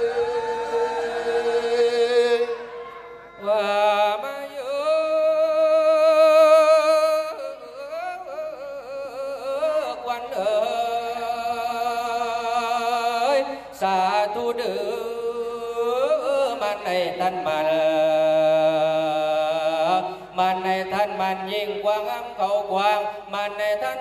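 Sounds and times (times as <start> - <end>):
man chanting: 0.0 - 24.0.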